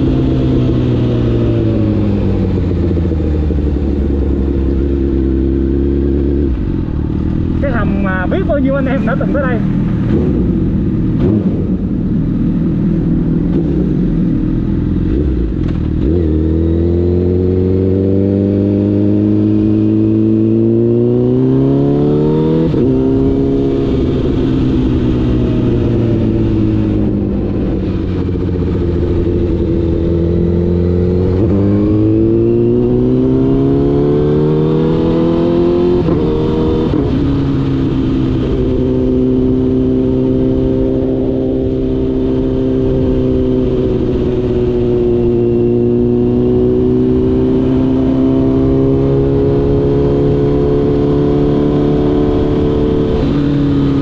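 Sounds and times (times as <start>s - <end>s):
motorcycle engine pulling under throttle: 0.0s - 54.0s.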